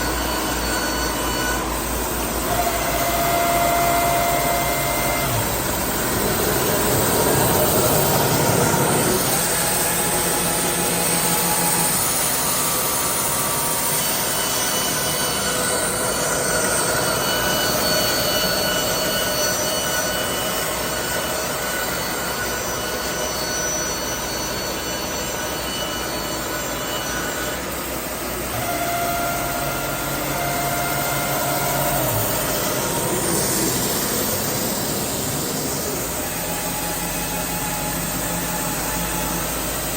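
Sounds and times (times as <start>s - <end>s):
band sawmill cutting a log: 0.0s - 39.9s.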